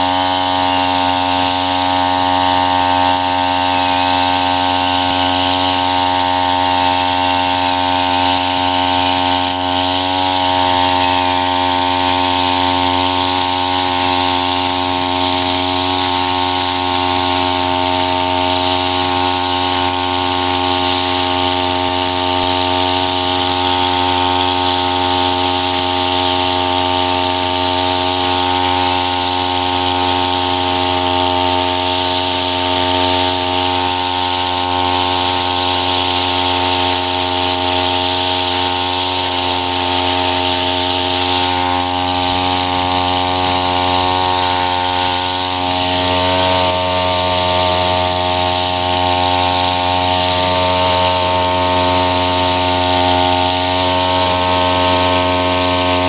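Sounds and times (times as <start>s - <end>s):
brush cutter engine whining: 0.0s - 56.0s
trimmer cutting grass hiss: 0.0s - 56.0s.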